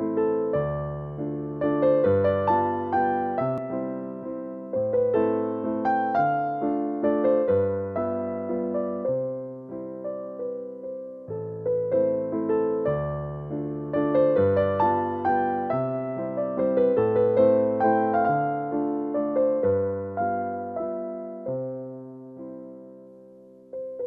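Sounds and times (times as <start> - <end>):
gentle piano piece: 0.0 - 24.0.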